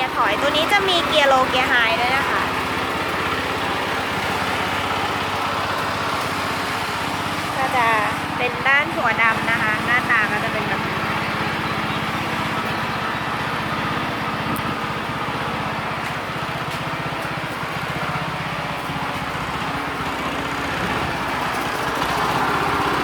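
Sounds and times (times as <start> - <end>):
gasoline engine running steadily: 0.0 - 23.0.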